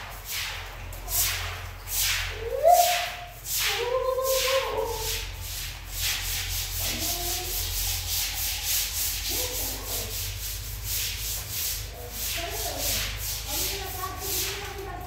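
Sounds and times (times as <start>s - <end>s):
rhythmic rasping rubbing: 0.8s - 15.0s.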